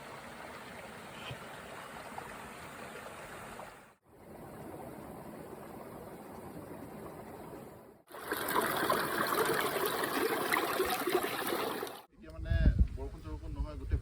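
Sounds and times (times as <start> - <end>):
flowing water rushing: 0.0 - 12.1.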